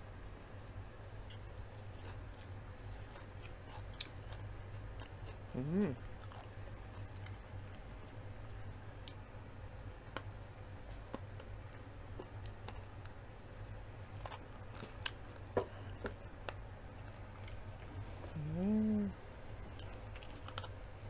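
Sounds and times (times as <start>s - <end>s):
faint low hum: 0.0s - 21.0s
chewing crispy fried chicken: 1.2s - 9.2s, 9.8s - 13.2s, 14.0s - 21.0s.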